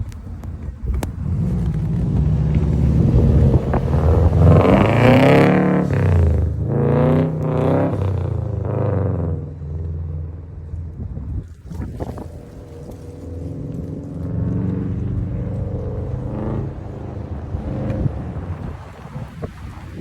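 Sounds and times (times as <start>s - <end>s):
engine revving: 0.8s - 10.8s, 11.6s - 20.0s.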